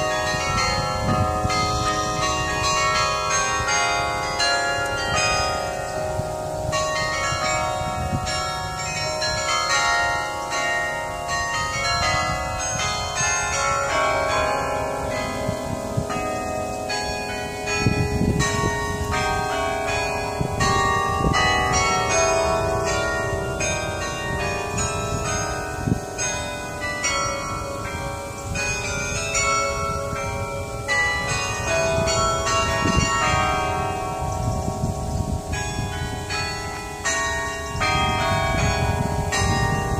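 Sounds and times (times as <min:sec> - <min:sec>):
carillon bells playing a tune: 0:00.0 - 0:39.9.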